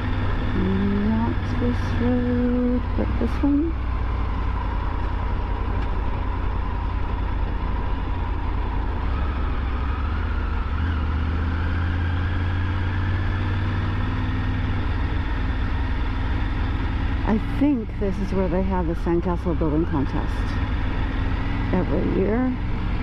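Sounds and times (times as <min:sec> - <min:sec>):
motorcycle engine running: 0:00.0 - 0:23.0
road and wind rumble: 0:00.0 - 0:23.0.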